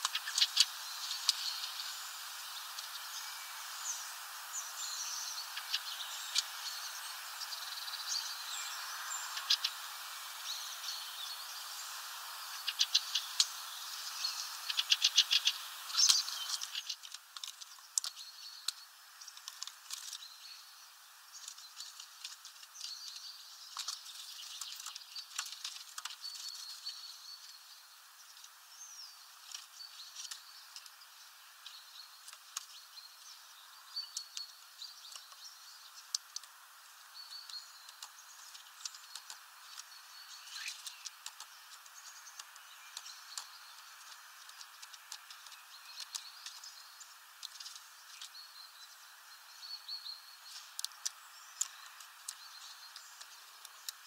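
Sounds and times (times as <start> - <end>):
songbirds chirping: 0.0 - 54.0
steady hiss: 0.0 - 54.0.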